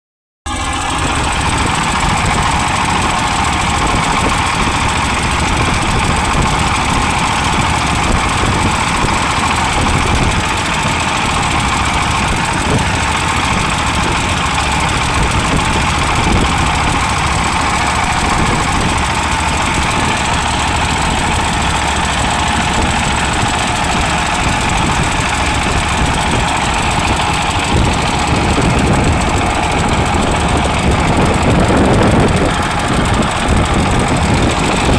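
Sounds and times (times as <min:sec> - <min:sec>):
engine running steadily: 0:00.5 - 0:34.9
wind rumbling on microphone: 0:00.7 - 0:34.9.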